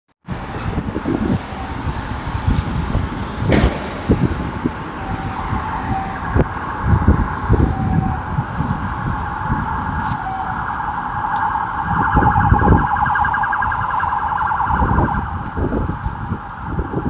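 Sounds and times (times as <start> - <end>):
vehicles passing with rumble: 0.2 - 17.0
emergency siren: 0.7 - 17.0.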